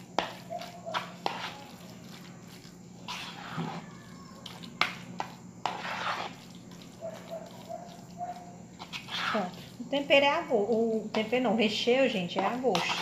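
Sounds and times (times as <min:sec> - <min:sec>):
spoon stirring wet filling: 0:00.0 - 0:13.0.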